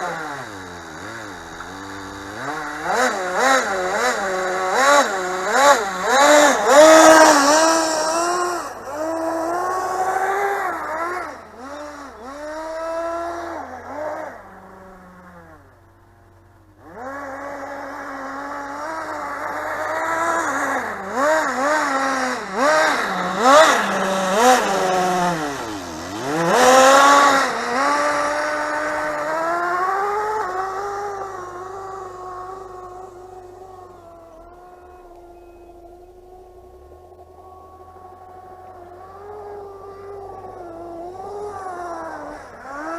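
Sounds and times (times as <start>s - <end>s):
small model engine revving: 0.0s - 42.9s.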